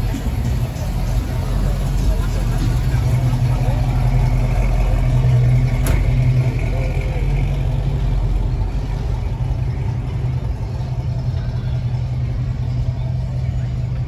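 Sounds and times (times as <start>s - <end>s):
car engines rumbling at low speed: 0.0s - 14.0s.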